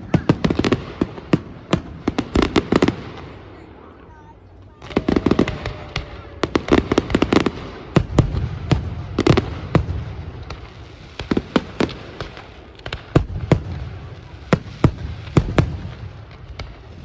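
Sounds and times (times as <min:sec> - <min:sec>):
fireworks bursting with echo: 0:00.0 - 0:17.0.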